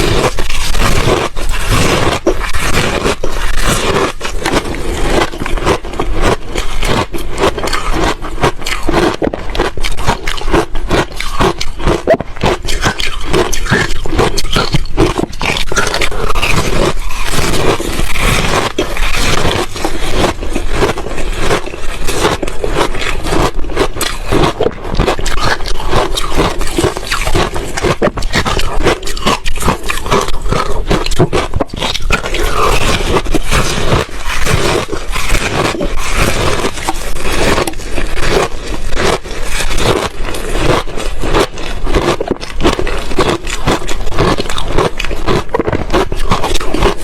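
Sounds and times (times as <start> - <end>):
ice crunching in mouth: 0.0 - 47.0.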